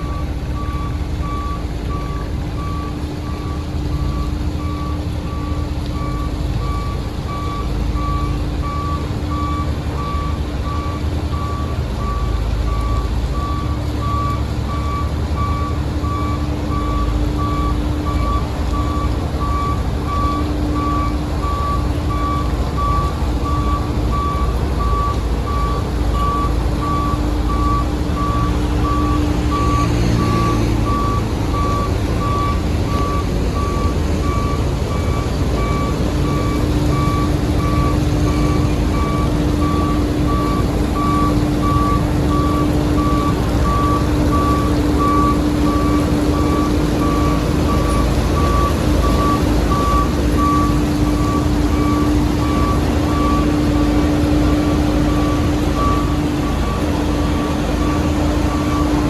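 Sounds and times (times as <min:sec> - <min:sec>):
back-up alarm beeping: 0:00.0 - 0:59.0
diesel engine running: 0:00.0 - 0:59.0.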